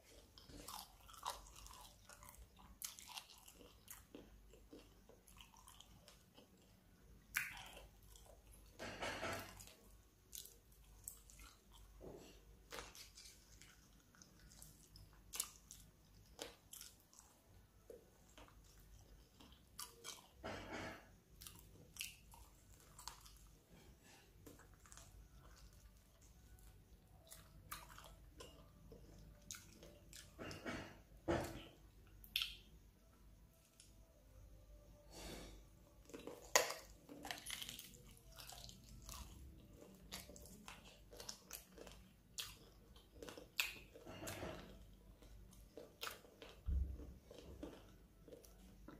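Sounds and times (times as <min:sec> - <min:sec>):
person chewing and crunching: 0:00.0 - 0:34.2, 0:35.2 - 0:48.9.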